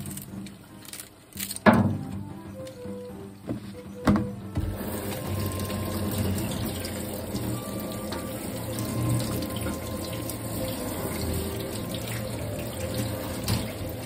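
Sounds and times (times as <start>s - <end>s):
background music: 0.0s - 14.0s
tap water running: 1.6s - 14.0s.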